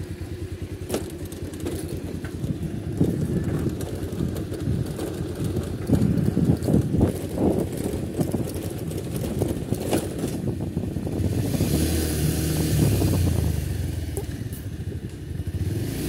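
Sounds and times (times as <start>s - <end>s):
street noise: 0.0s - 16.0s
vehicle engine hum: 0.0s - 16.0s.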